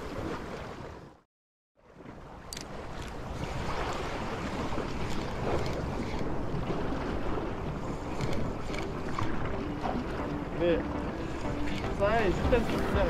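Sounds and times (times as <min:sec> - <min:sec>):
sea water washing: 0:01.8 - 0:13.0.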